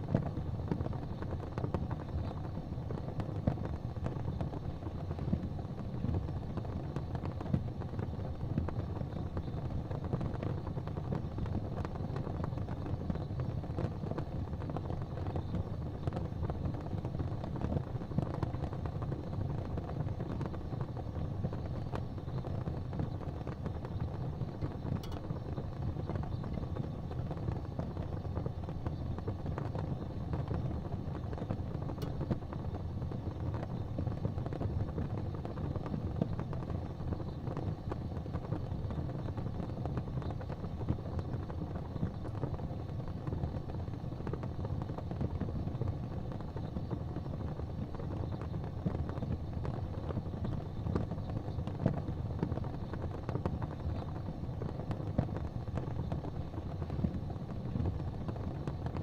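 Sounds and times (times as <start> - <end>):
fireplace fire crackling: 0.0 - 59.0
steady low rumble: 0.0 - 59.0.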